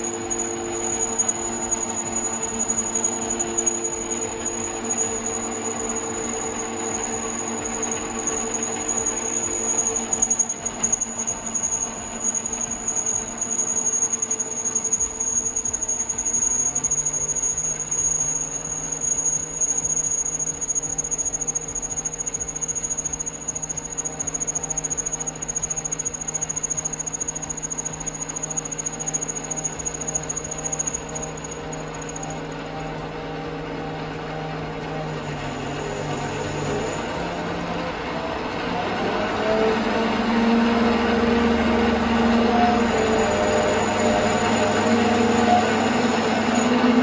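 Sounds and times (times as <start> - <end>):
lathe cutting metal: 0.0 - 47.0
lathe motor whine: 0.0 - 47.0.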